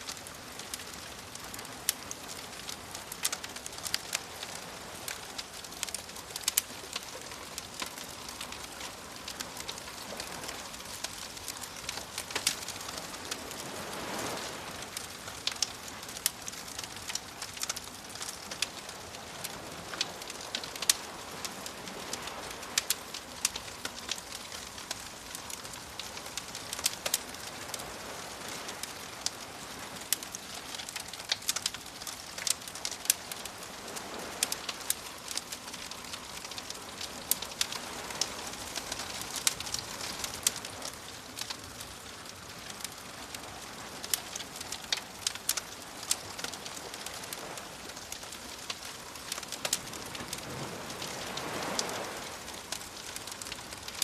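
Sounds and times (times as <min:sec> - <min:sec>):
waves washing: 0:00.0 - 0:54.0
wood fire crackling and popping: 0:00.0 - 0:54.0.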